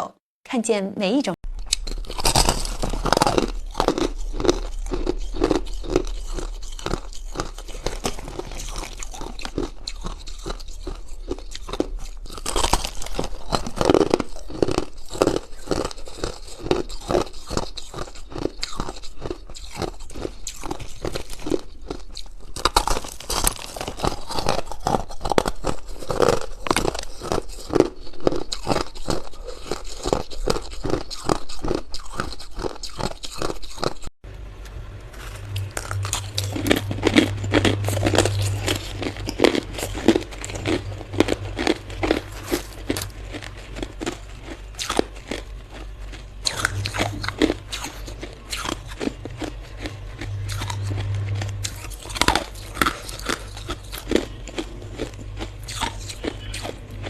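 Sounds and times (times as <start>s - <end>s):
ice being chewed crunching: 1.5s - 34.1s, 35.1s - 57.0s.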